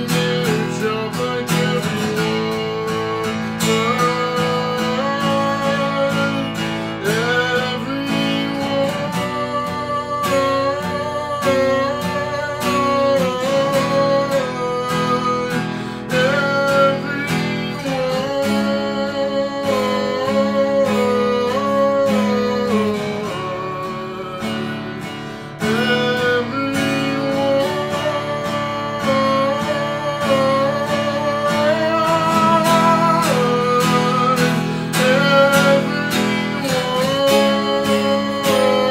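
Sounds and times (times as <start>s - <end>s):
man singing: 0.0s - 38.9s
strummed acoustic guitar: 0.0s - 38.9s.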